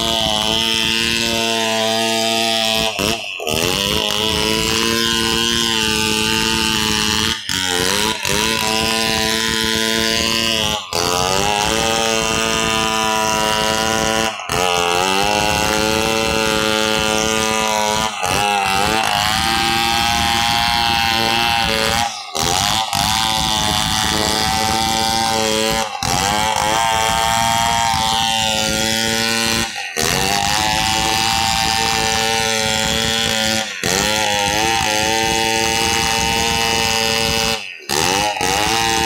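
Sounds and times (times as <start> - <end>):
chainsaw cutting log: 0.0 - 39.0.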